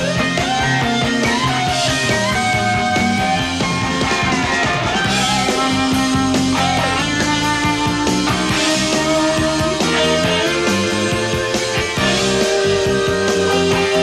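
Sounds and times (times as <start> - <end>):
drums and bass: 0.0 - 14.0
electric guitar lead lines: 0.0 - 14.0.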